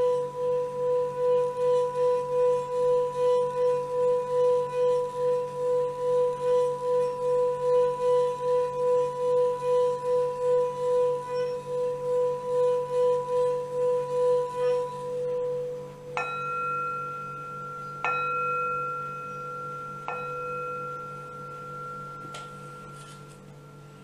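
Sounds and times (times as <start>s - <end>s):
singing bowl rim rubbed: 0.0s - 24.0s
singing bowl struck ringing: 0.0s - 24.0s.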